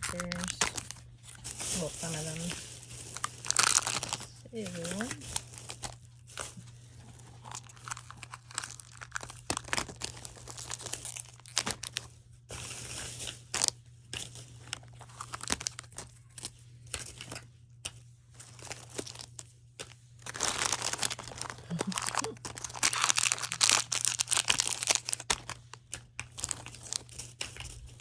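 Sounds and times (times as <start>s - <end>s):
plastic packaging crinkling and tearing: 0.0s - 28.0s
plastic rustling: 0.0s - 28.0s.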